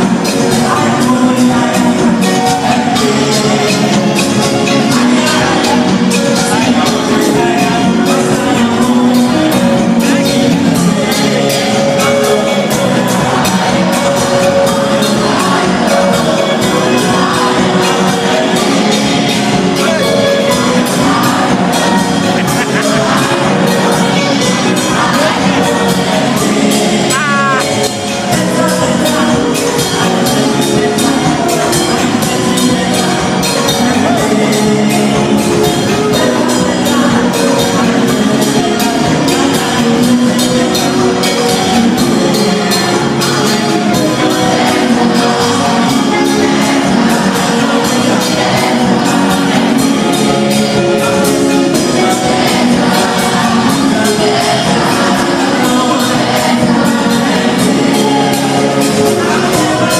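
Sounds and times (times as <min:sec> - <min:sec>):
gospel band playing: 0:00.0 - 0:59.9
steady drum beat: 0:00.0 - 0:59.9.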